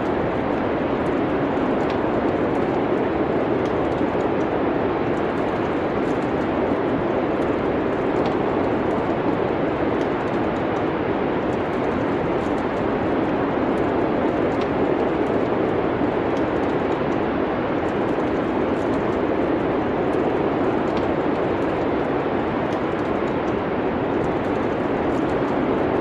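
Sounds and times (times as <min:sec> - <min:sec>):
winter storm wind: 0:00.0 - 0:26.0
wood fire crackling: 0:00.0 - 0:26.0.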